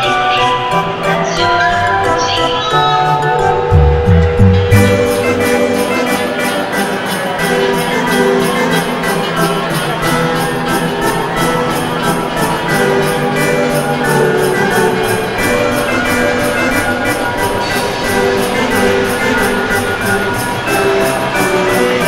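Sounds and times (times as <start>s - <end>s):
music with steady beat: 0.0s - 22.0s.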